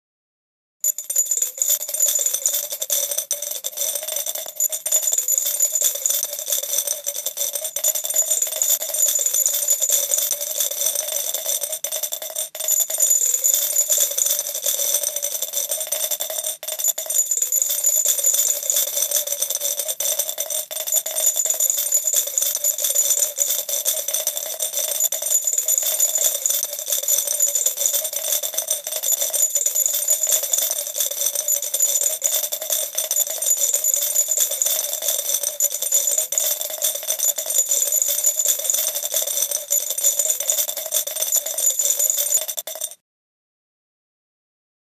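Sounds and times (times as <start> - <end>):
coins pouring into glass jar: 0.8 - 43.0.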